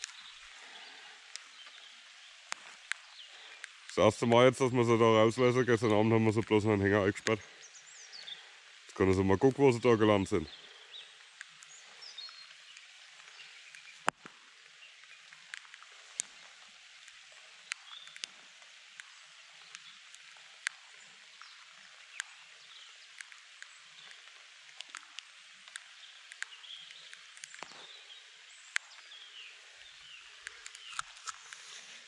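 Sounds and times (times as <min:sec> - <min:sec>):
light rain hiss: 0:00.0 - 0:32.0
sharp drip ticks: 0:00.0 - 0:32.0.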